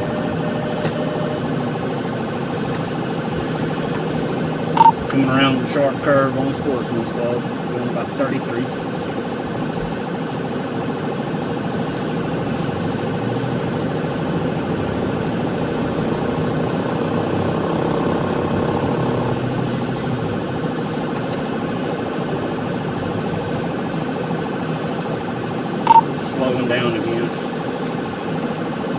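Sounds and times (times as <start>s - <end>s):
car engine and road hum: 0.0s - 28.9s.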